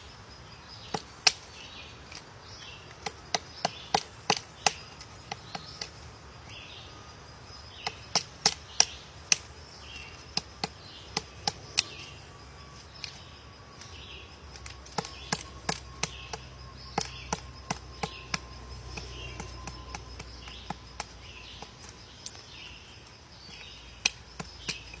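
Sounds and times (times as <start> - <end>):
faint chirps: 0.0 - 25.0
woodpecker pecking at wood: 0.8 - 6.1, 7.7 - 12.2, 12.8 - 25.0.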